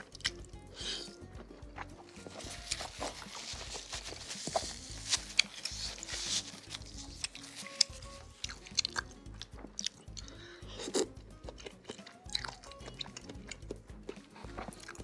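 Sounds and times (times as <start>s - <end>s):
background music: 0.0s - 15.0s
close chewing and biting: 0.0s - 15.0s.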